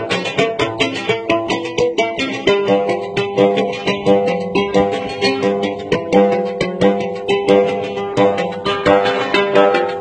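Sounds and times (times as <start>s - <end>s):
oud plucked notes: 0.0s - 10.0s.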